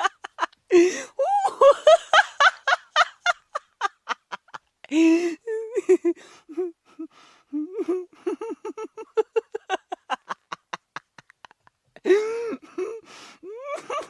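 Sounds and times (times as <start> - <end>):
person laughing: 0.0 - 7.0, 7.6 - 14.0.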